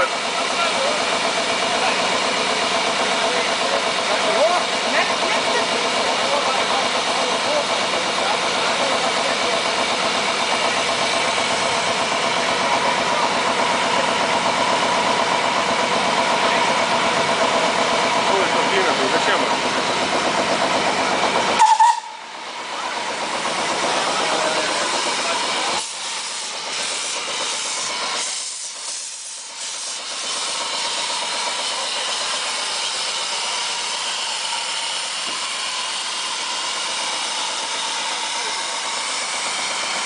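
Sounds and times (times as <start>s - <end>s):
steam locomotive hissing steam: 0.0s - 40.0s.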